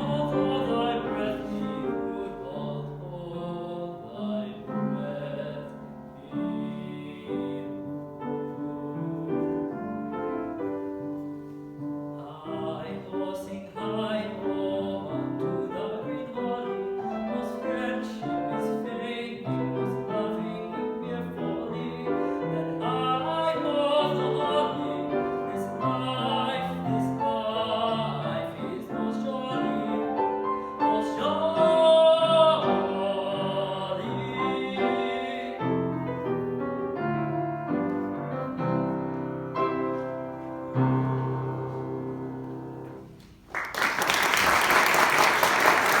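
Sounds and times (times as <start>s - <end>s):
piano accompaniment: 0.0s - 46.0s.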